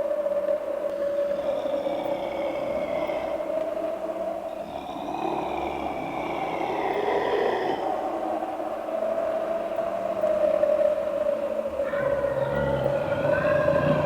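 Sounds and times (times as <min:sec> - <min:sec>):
low drone: 0:00.0 - 0:14.0.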